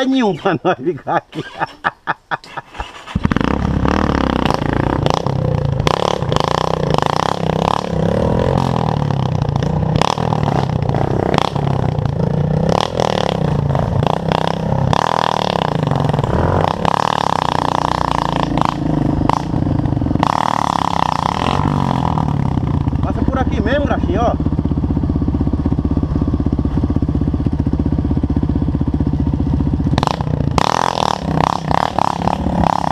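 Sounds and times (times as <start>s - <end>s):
motorcycle engine revving: 3.0s - 32.9s.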